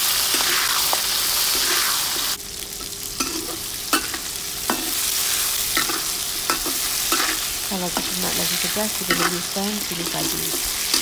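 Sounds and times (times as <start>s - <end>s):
vegetables sizzling in oil: 0.0s - 11.0s
metal spatula scraping wok: 0.2s - 2.2s, 3.2s - 11.0s.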